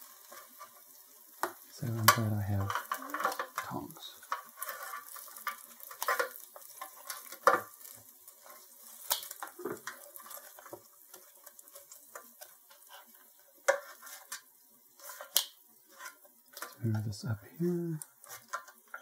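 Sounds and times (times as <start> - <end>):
faint sizzle of cooking: 0.0 - 19.0.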